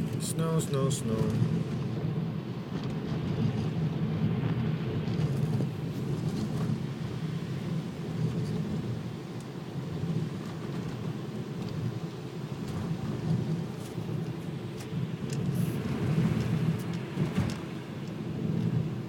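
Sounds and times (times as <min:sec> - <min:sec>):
car driving on wet road: 0:00.0 - 0:19.0.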